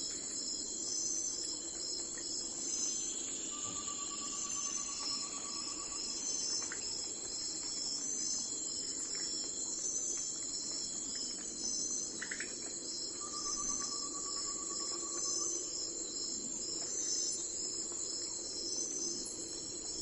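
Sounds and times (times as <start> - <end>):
crickets chirping: 0.0 - 20.0
lower pulsed insect trill: 0.0 - 20.0.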